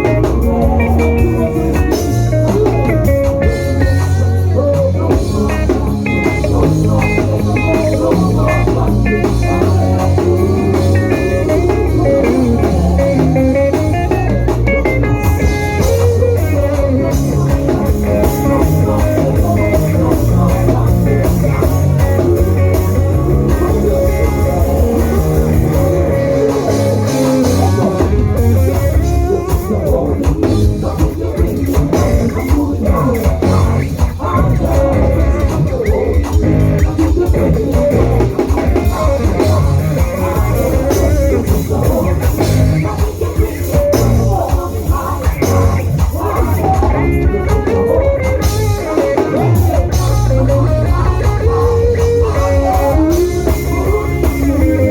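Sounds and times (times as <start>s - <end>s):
live worship band music: 0.0s - 54.9s.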